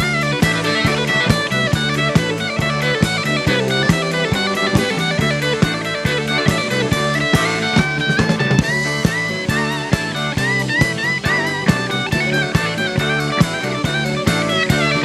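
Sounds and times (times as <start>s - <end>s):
drum kit beat: 0.0s - 15.0s
electric guitar lead: 0.0s - 15.0s.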